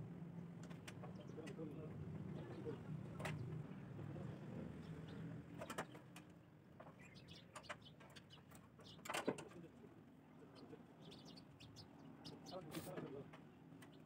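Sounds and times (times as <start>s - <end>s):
small birds chirping: 0.9s - 14.0s.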